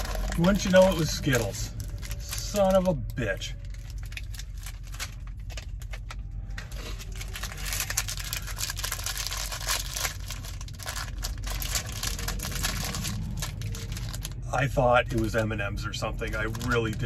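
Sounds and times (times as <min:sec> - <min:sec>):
plastic wrapper crinkling: 0:00.0 - 0:14.5.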